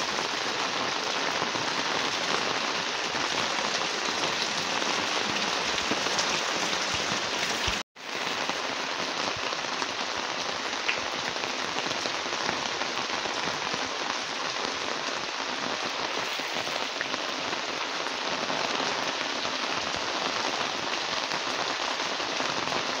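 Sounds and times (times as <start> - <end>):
heavy rain on concrete: 0.0 - 23.0.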